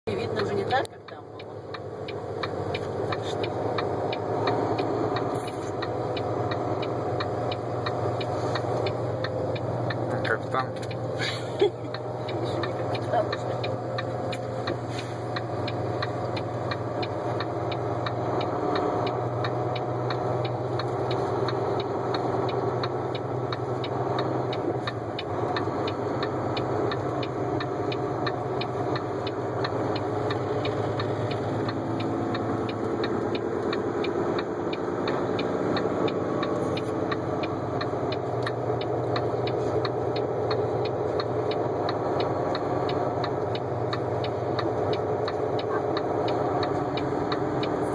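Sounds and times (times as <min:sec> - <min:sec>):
vehicle engine and road drone: 0:00.0 - 0:47.9
faint regular ticking: 0:00.1 - 0:47.9.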